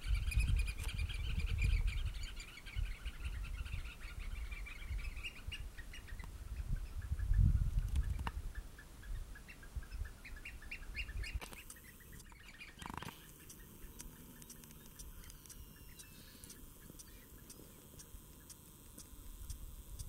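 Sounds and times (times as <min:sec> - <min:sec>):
birds piping calls: 0:00.0 - 0:20.0.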